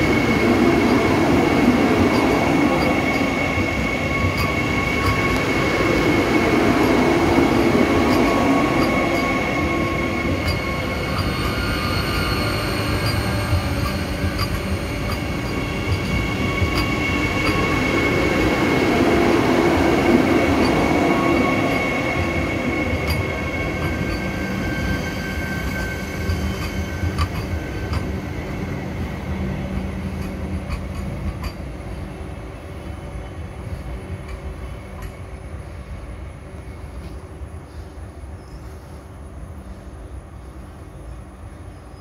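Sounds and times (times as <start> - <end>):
sharp clicks of train wheels: 0.0 - 32.2, 33.6 - 35.6
train wheels whining on rails: 0.0 - 42.0.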